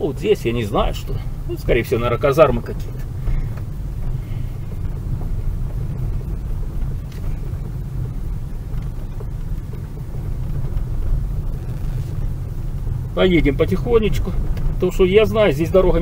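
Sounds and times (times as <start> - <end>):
car engine rumble from inside: 0.0 - 16.0.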